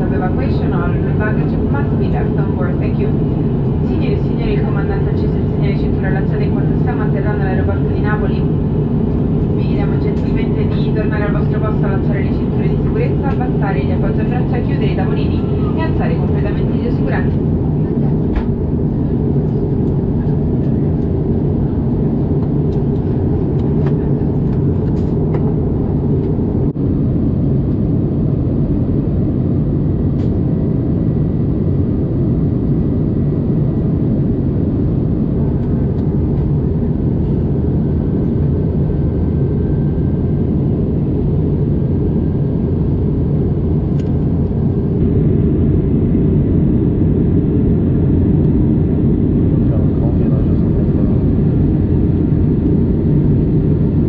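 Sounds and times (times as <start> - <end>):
airliner cabin rumble: 0.0 - 54.0.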